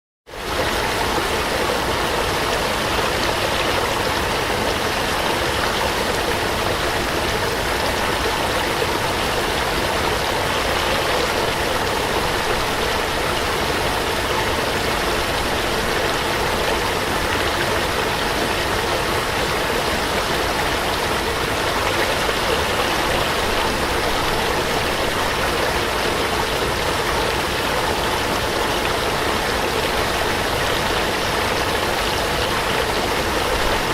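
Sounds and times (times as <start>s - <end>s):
small waterfall pouring: 0.3s - 33.9s.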